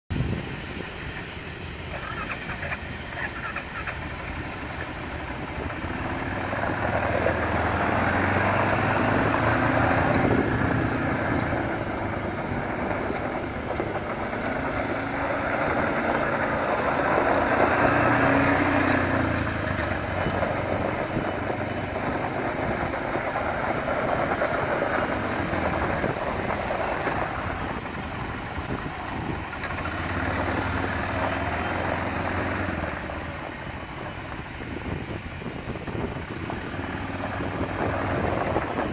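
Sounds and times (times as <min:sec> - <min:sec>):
atv engine revving: 0:01.9 - 0:38.9.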